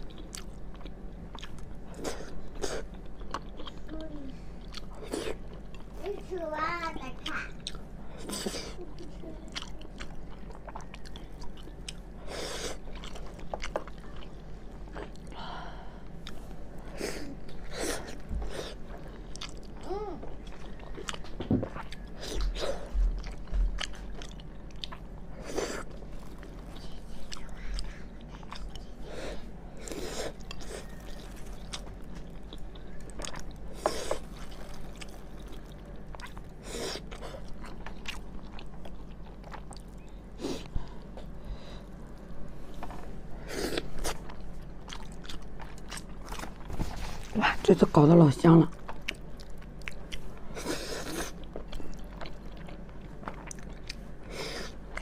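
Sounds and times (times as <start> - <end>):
person chewing: 0.0 - 6.0, 7.6 - 47.4, 48.7 - 55.0.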